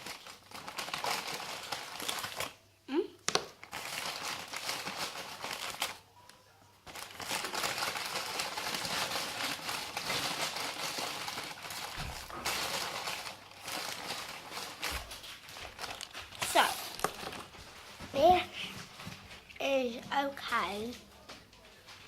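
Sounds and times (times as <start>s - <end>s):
plastic wrapper crinkling: 0.0s - 2.6s, 3.3s - 6.1s, 6.8s - 19.7s.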